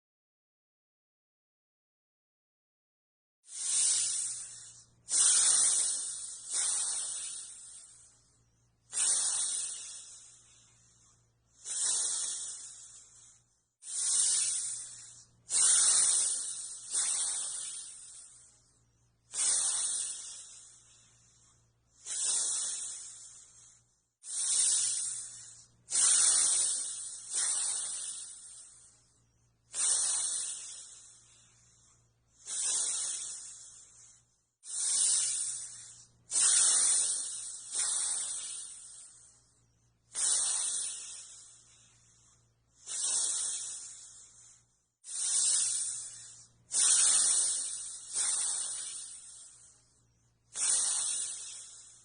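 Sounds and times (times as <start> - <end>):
cobra hissing: 3.5 - 52.0.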